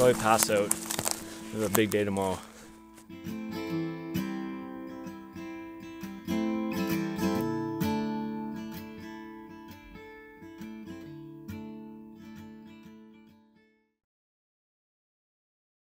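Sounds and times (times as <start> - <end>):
acoustic guitar music: 0.0 - 13.8.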